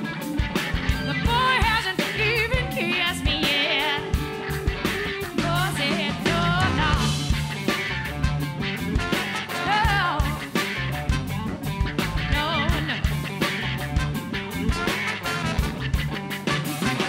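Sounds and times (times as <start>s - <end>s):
drums: 0.0s - 17.0s
electric bass: 0.0s - 17.0s
wavering lead melody: 0.2s - 17.0s.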